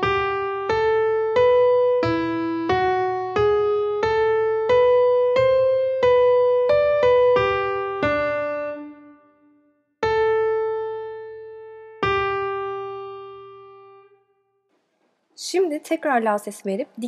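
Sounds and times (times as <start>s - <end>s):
piano melody: 0.0s - 14.6s.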